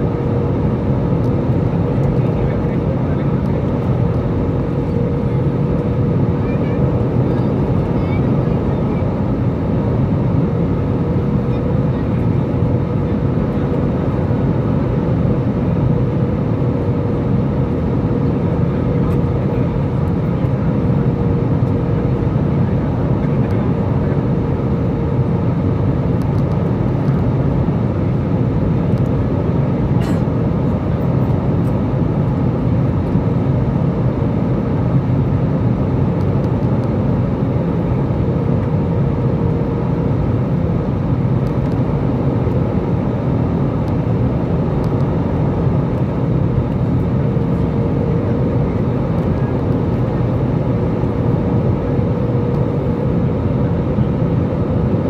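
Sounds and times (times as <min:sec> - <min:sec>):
airliner cabin engine noise: 0:00.0 - 0:55.0
faint constant hum: 0:00.0 - 0:55.0.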